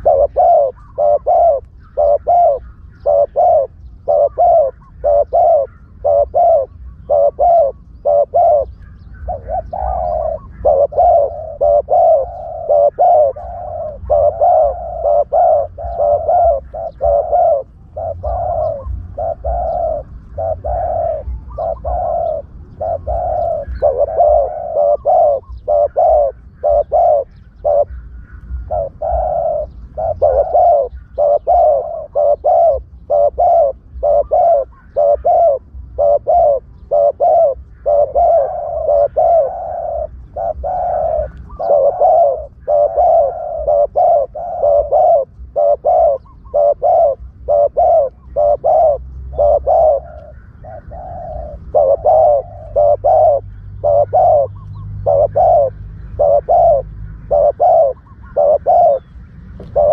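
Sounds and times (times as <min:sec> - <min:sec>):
doves cooing: 0:00.0 - 0:59.9
faint low rumble: 0:00.0 - 0:59.9.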